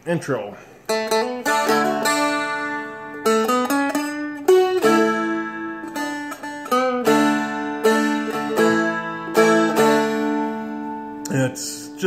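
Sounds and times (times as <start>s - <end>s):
plucked dulcimer melody: 0.9s - 12.0s.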